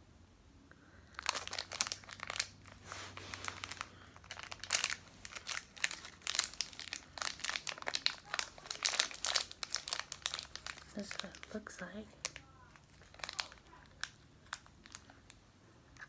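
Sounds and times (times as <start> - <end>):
plastic wrapper crinkling: 1.0 - 16.0.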